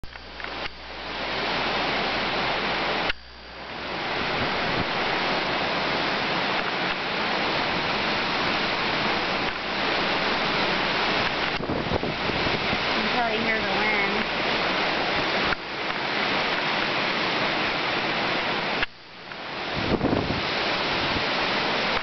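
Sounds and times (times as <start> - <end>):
wind blowing through trees: 0.0 - 22.0.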